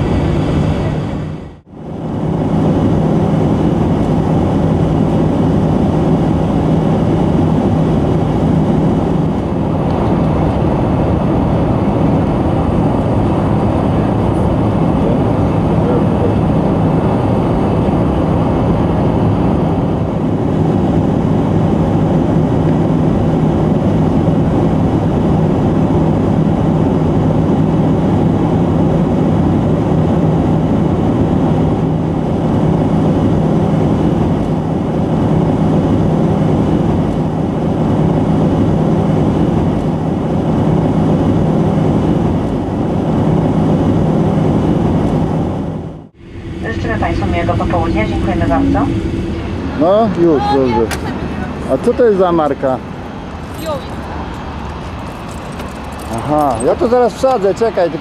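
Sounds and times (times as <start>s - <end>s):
airliner cabin engine rush: 0.0s - 58.0s
constant low hum: 0.0s - 58.0s.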